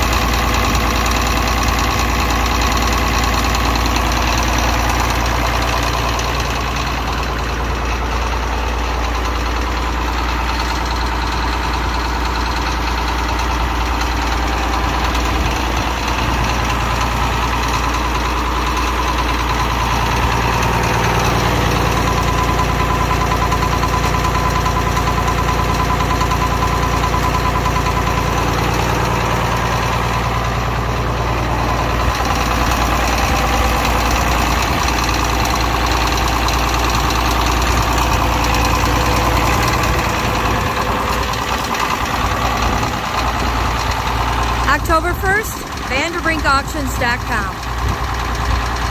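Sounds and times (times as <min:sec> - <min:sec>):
tractor diesel engine idling: 0:00.0 - 0:48.9.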